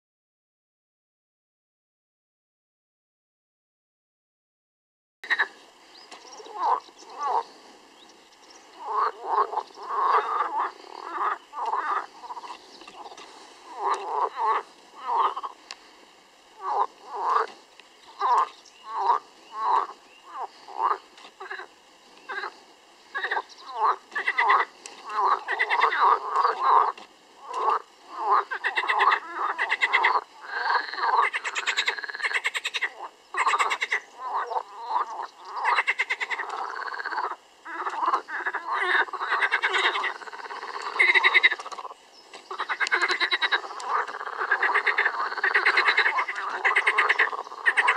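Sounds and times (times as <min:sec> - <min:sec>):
frogs croaking: 0:05.2 - 0:47.9.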